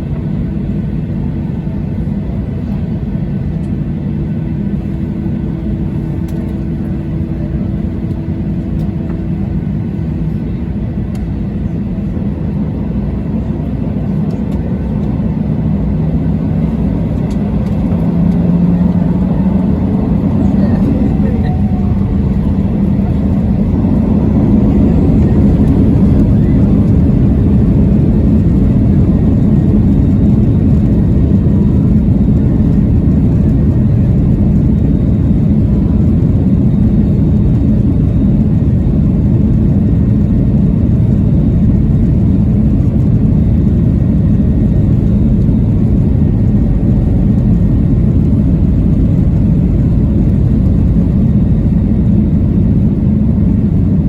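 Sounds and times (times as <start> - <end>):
jet engines roaring in cabin: 0.0 - 54.0.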